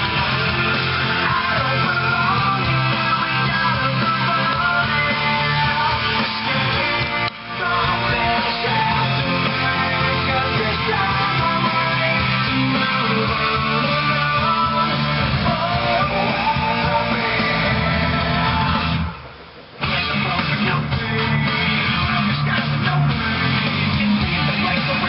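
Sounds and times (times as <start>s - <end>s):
guitar background music: 0.0s - 19.2s, 19.8s - 25.0s.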